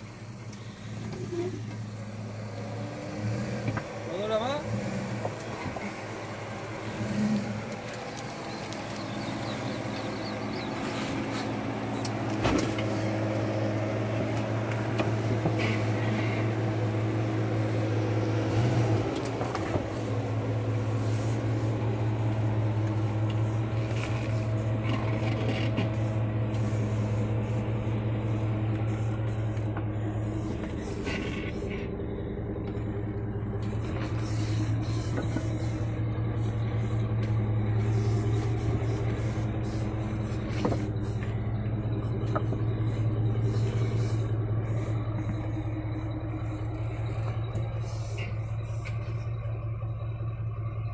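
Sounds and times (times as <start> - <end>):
suv engine running low: 0.0 - 50.9.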